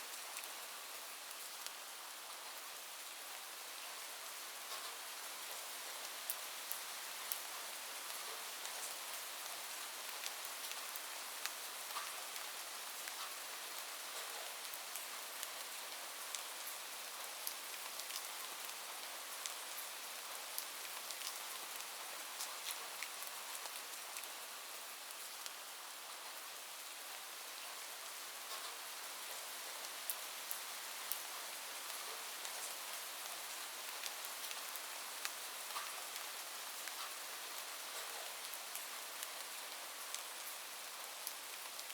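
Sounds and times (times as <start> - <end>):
light rain hiss: 0.0 - 41.9
raindrops ticking on a surface: 0.1 - 41.9.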